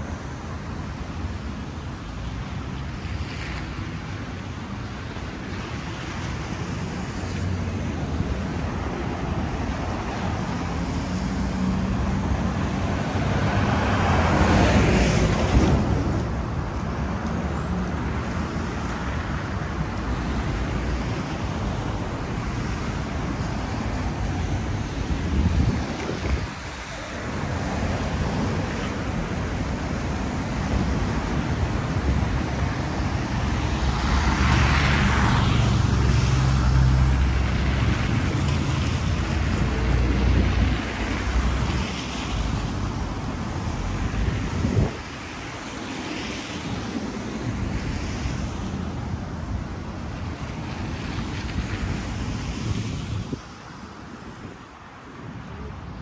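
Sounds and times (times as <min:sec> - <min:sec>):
street noise: 0:00.0 - 0:56.0.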